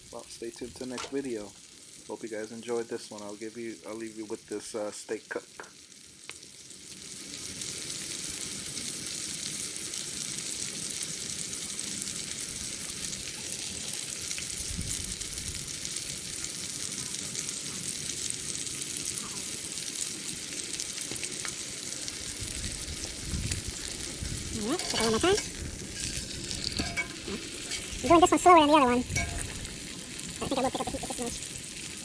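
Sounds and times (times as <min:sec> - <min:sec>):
steak sizzling: 0:00.0 - 0:32.0.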